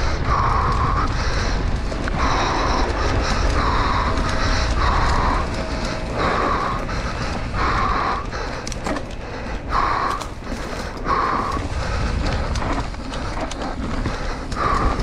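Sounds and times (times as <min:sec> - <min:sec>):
bike rattling over trail: 0:00.0 - 0:15.0
wind rumble on microphone: 0:00.0 - 0:15.0.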